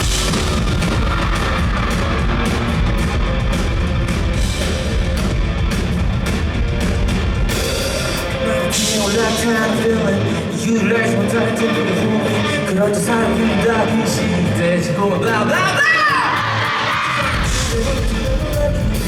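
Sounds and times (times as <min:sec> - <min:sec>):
driving drum kit: 0:00.0 - 0:11.4, 0:13.0 - 0:19.0
guitar: 0:00.0 - 0:19.0
rock band playing: 0:00.0 - 0:19.0.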